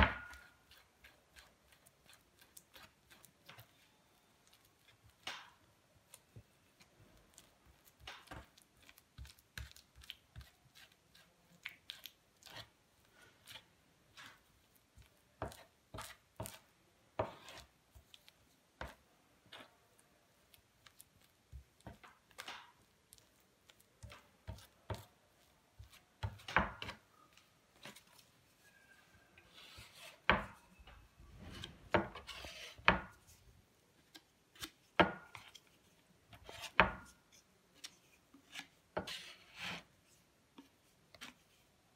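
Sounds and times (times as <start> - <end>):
spatula scraping wet clay: 0.1 - 30.7, 31.3 - 41.9.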